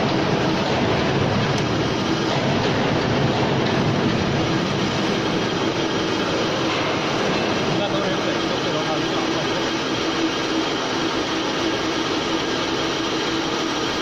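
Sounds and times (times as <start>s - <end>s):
lathe running: 0.0s - 14.0s.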